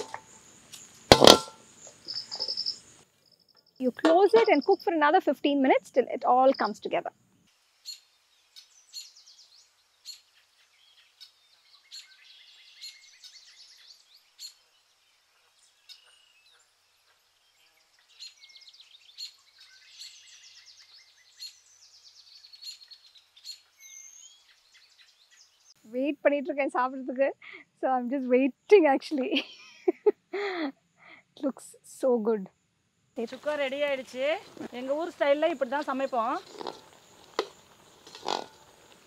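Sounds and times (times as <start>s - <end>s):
faint birds chirping: 0.0s - 32.4s, 33.0s - 39.0s.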